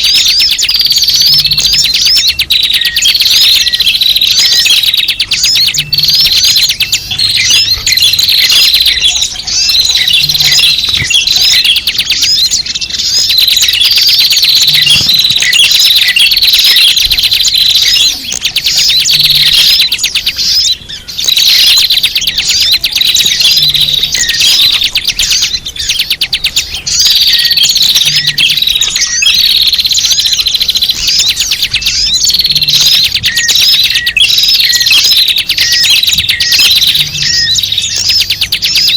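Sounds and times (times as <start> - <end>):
flock of small birds chirping: 0.0 - 38.9.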